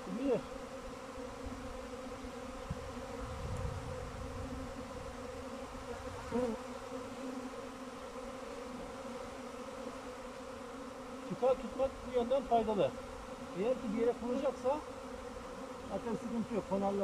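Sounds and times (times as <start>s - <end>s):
single bee buzzing: 0.0s - 17.0s
swarm of bees droning: 0.0s - 17.0s.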